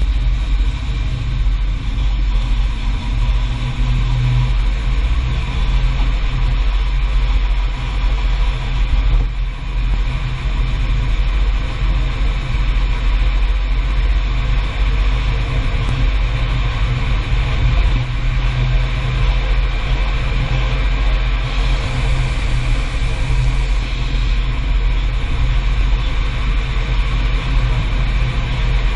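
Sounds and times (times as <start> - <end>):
car road rumble: 0.0 - 28.9.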